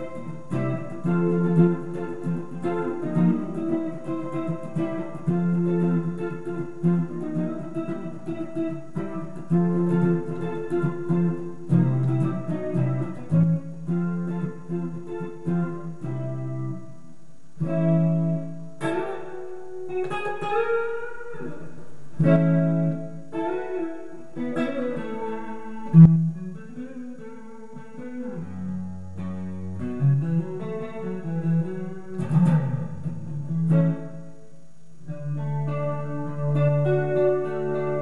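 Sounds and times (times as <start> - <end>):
electric guitar with chorus: 0.0 - 38.0.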